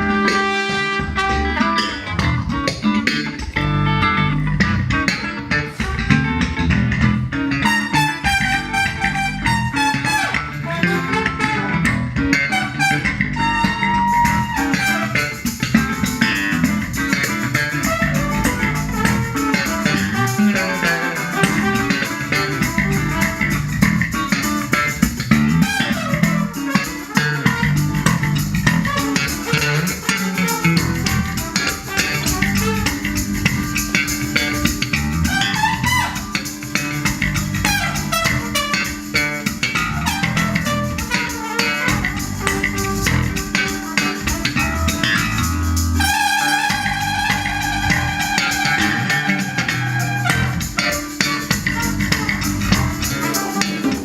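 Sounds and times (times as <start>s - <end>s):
bass guitar: 0.0s - 54.0s
drum kit: 0.0s - 54.0s
guitar: 0.0s - 54.0s.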